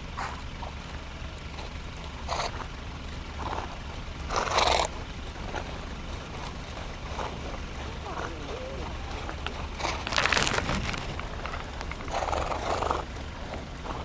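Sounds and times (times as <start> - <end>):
horses running through snow: 0.1 - 14.0.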